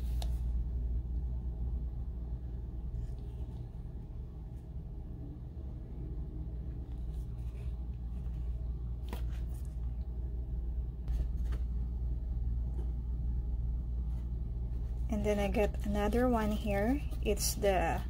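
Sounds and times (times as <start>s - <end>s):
low rumble: 0.4s - 18.0s.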